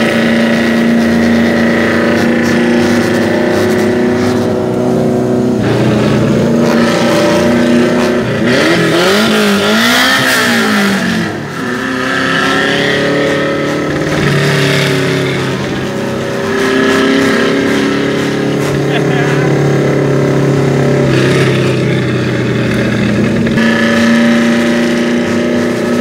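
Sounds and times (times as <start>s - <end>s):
car engine revving in cabin: 0.0s - 26.0s.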